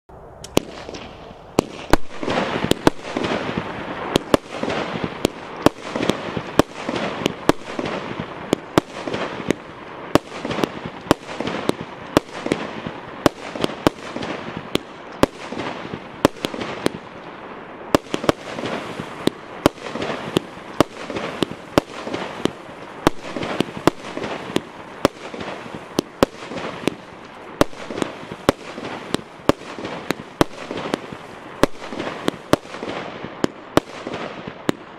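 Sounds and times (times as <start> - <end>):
fireworks bangs: 0.1 - 34.9
fireworks crackle: 0.2 - 34.9.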